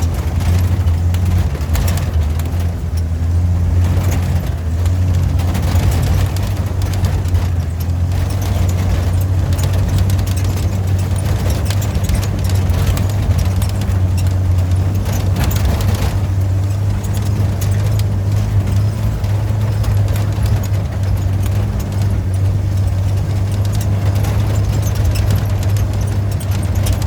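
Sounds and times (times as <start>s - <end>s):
off-road vehicle engine running: 0.0s - 27.0s
vehicle rattling and clicking: 0.0s - 27.0s.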